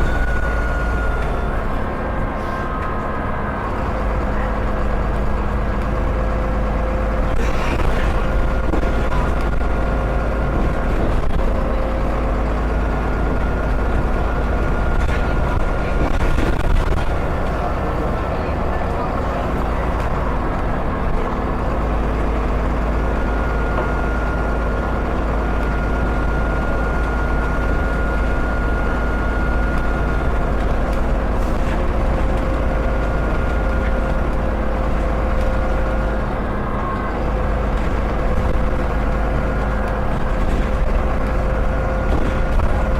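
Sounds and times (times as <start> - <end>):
bus diesel engine droning: 0.0 - 42.9.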